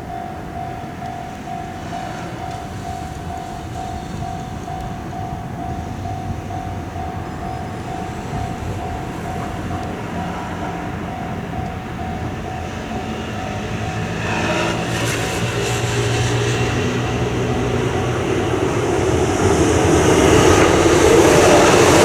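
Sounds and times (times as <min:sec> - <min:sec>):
level-crossing warning bell: 0:00.0 - 0:22.0
train rumble and motor hum: 0:00.0 - 0:22.0.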